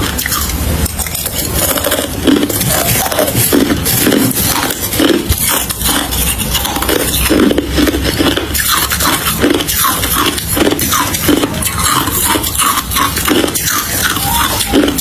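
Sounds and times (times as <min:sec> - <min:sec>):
crushed ice being chewed: 0:00.0 - 0:15.0.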